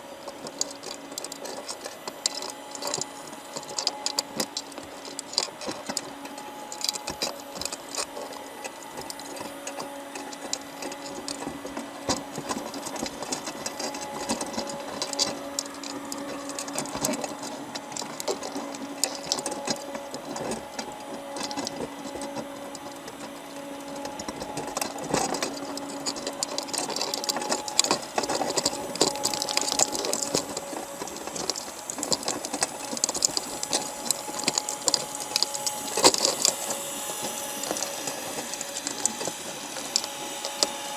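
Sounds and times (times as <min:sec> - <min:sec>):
crabs clicking and scraping underwater: 0:00.0 - 0:40.9
faint steady hum: 0:00.0 - 0:40.9.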